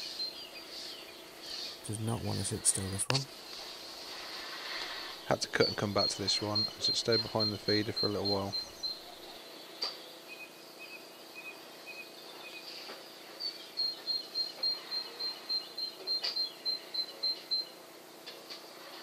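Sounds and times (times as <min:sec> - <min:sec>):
small bird chirping: 0:00.0 - 0:03.8, 0:04.8 - 0:17.8
faint steady hum: 0:00.0 - 0:19.0.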